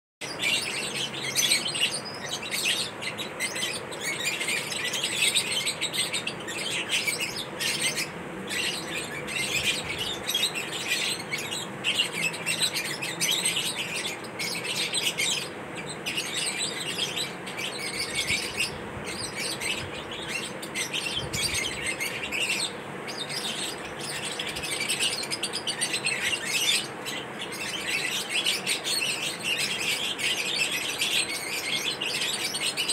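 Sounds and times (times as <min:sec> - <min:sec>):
lovebirds chirping and twittering: 0:00.2 - 0:32.9.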